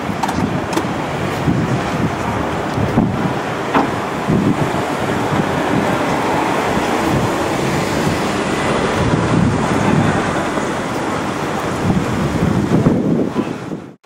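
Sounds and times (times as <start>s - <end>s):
gusty low rumble: 0.0s - 14.0s
loud rushing noise: 0.0s - 14.0s.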